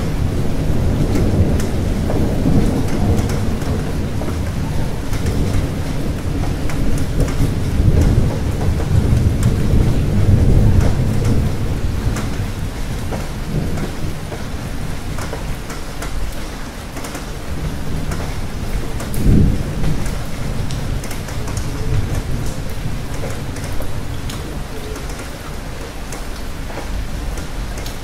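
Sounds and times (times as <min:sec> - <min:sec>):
rolling thunder: 0:00.0 - 0:28.0
steady rain: 0:00.0 - 0:28.0.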